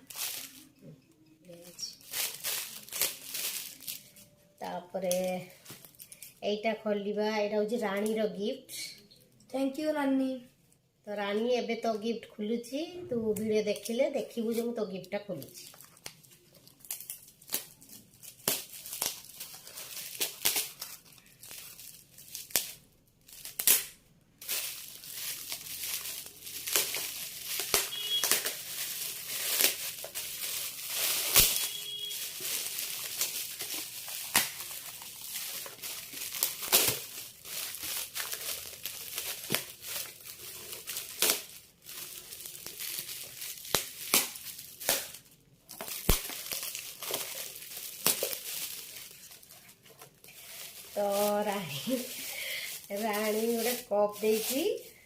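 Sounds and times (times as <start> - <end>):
wrapping paper tearing and crinkling: 0.0 - 6.4, 13.5 - 55.0.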